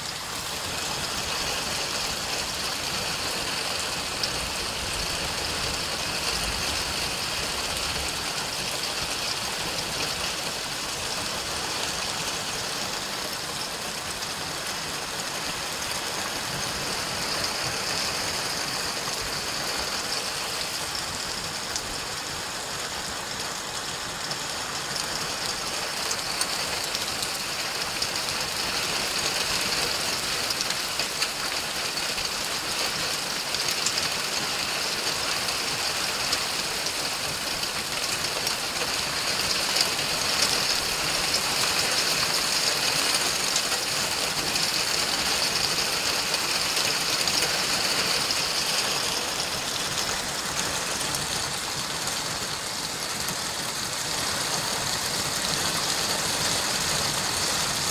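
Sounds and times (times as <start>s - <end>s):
heavy rain pouring on street: 0.0s - 57.9s.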